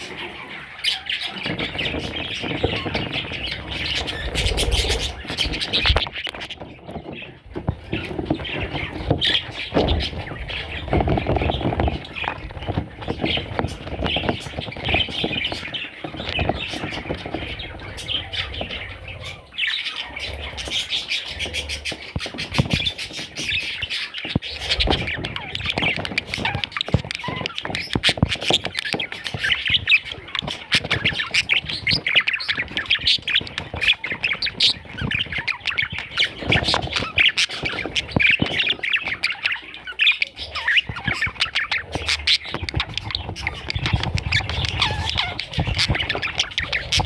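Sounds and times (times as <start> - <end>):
budgerigars chattering and squawking: 0.0 - 47.0.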